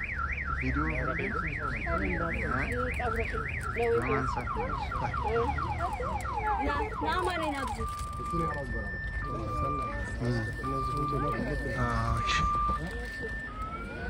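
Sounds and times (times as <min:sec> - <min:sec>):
car alarm warbling and chirping: 0:00.0 - 0:14.0.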